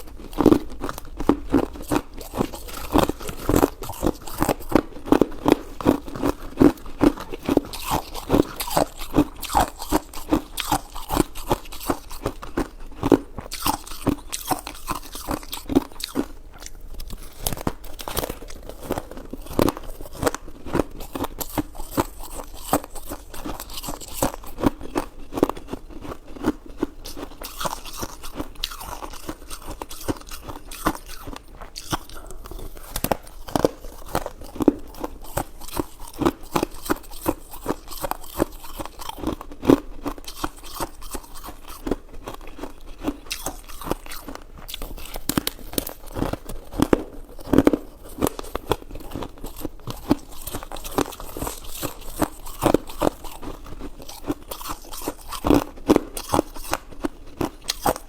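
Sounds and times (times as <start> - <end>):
wet chewing mouth clicks: 0.0 - 58.0.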